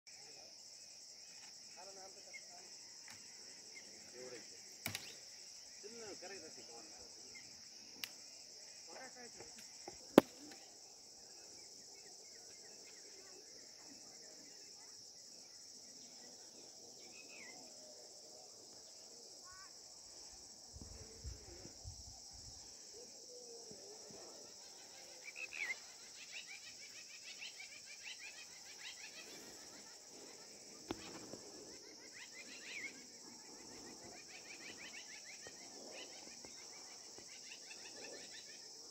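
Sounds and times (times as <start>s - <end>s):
insect chorus: 0.1s - 38.9s.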